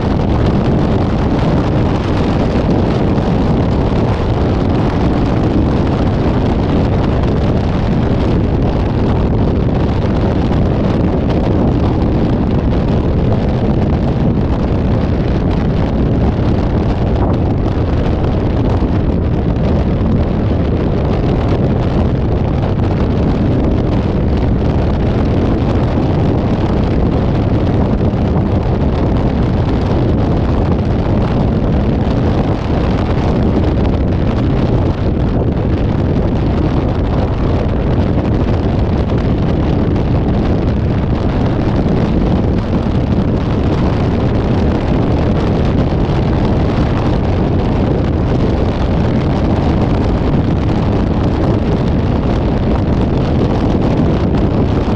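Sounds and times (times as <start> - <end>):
road and engine rumble: 0.0 - 54.9
wind buffeting microphone: 0.0 - 54.9.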